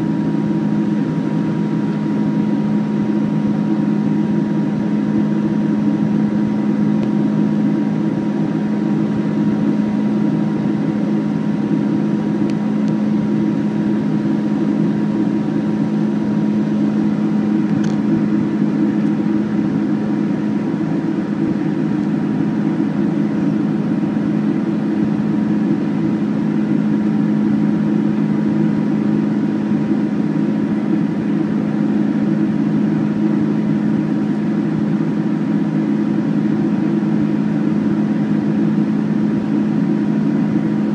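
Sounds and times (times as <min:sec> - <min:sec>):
aircraft cabin engine drone: 0:00.0 - 0:40.9
faint steady whine: 0:00.0 - 0:40.9.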